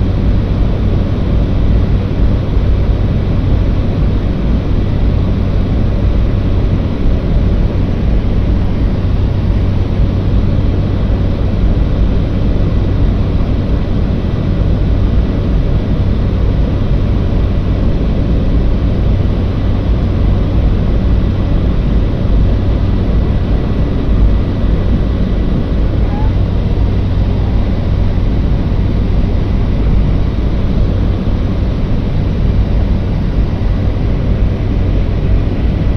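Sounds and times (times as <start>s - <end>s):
faint steady whine: 0.0s - 35.9s
propeller aircraft engine drone: 0.0s - 35.9s.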